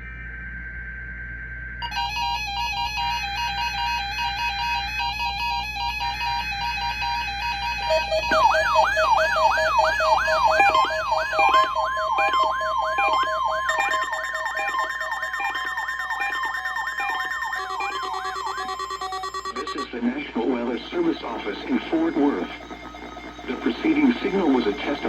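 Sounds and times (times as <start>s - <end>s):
electronic siren-like alert tone: 1.9s - 25.0s
synthesized electronic music: 3.0s - 25.0s.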